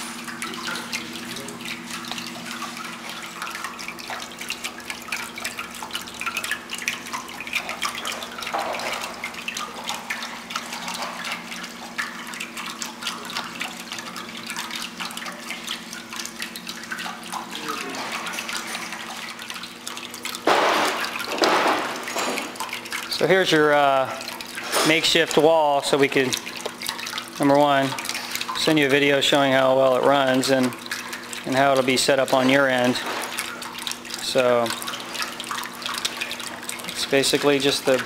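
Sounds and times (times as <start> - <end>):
low pump hum: 0.0 - 38.0
water drips: 0.0 - 38.0
water sheeting and splashing: 0.0 - 38.0.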